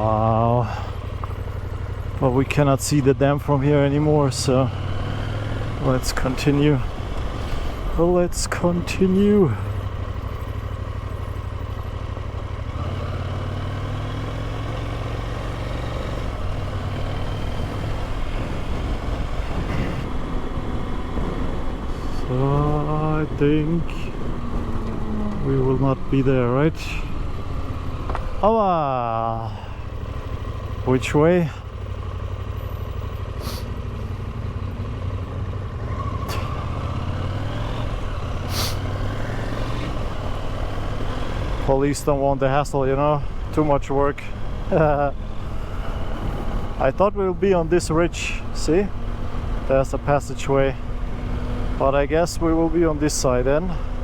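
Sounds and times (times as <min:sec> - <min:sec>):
motorcycle engine running: 0:00.0 - 0:54.0
road noise: 0:00.0 - 0:54.0.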